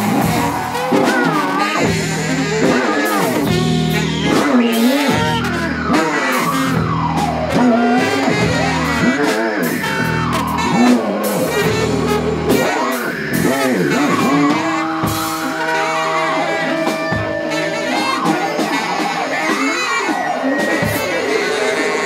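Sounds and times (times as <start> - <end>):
drums: 0.0 - 22.0
saxophone: 0.0 - 22.0.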